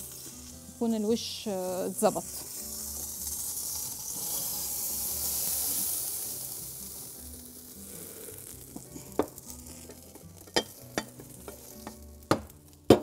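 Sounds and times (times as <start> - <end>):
casserole sizzling: 0.0 - 13.0.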